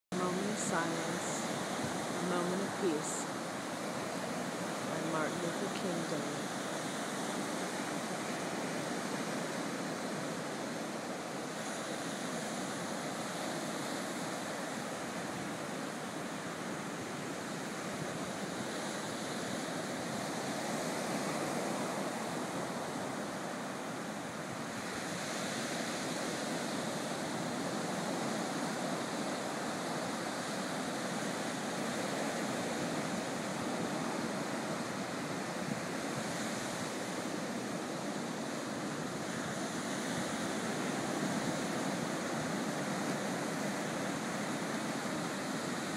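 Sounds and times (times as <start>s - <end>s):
small waves washing up beach: 0.1s - 45.9s.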